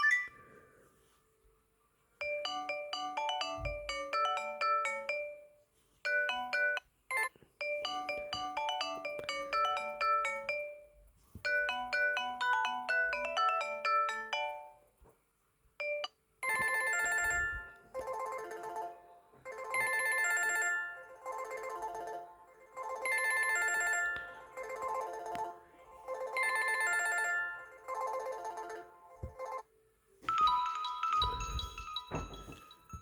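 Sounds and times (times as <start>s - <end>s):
bright phone ringtone: 0.0s - 0.5s, 2.2s - 14.9s, 15.8s - 33.0s
phone ringtone melody: 0.0s - 0.5s, 2.2s - 14.9s, 15.8s - 33.0s.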